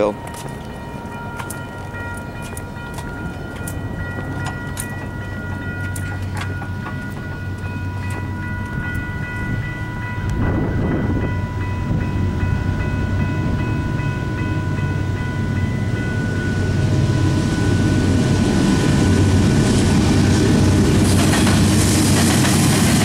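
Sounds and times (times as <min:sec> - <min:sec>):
continuous crossing bell ringing: 0:00.0 - 0:19.6.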